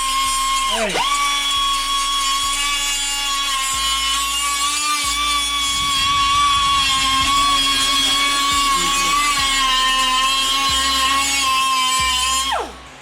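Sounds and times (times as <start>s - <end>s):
power tool high whine: 0.0s - 13.0s.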